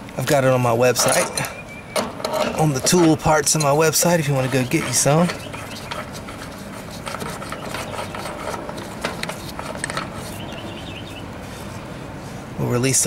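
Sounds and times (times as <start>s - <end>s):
steady outdoor hiss: 0.0s - 13.0s
gloved hands rubbing and clicking fittings: 1.0s - 11.8s.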